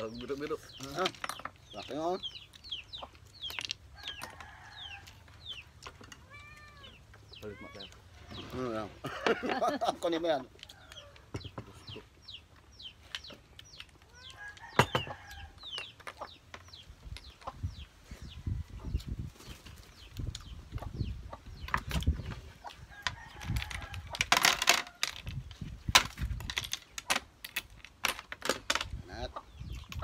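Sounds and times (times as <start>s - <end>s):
chickens clucking: 0.0s - 24.2s, 28.9s - 30.0s.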